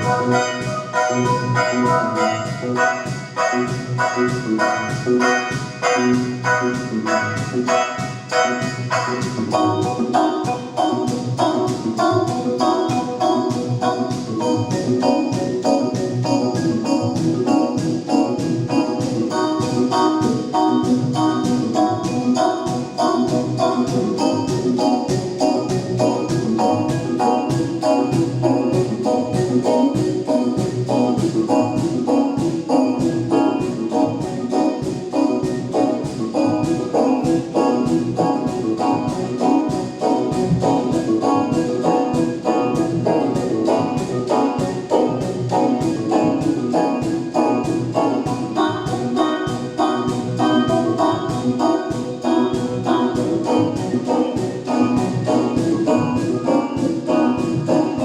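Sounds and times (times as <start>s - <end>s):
organ-like keyboard chords: 0.0s - 58.0s
steady drum beat: 0.0s - 58.0s
sustained pitched notes: 0.0s - 58.0s.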